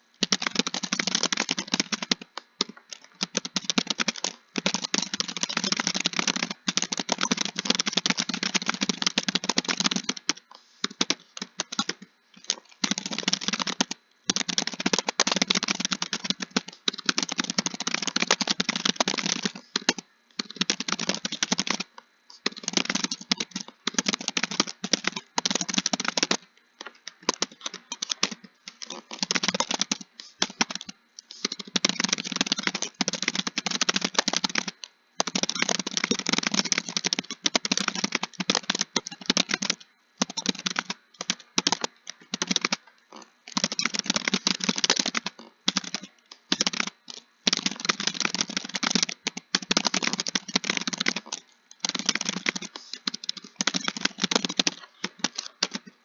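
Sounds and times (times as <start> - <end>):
fast typing on keyboard: 0.0 - 56.0.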